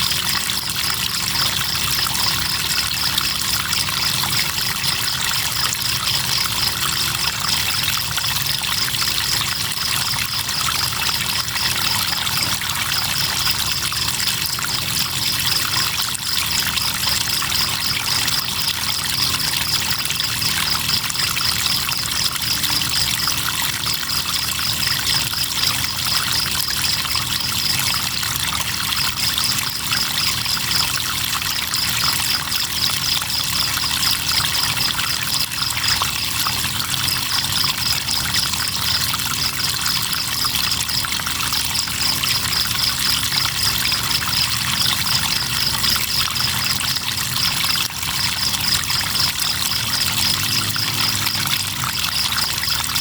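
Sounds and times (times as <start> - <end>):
crickets chirping: 0.0 - 53.0
river water running: 0.0 - 53.0.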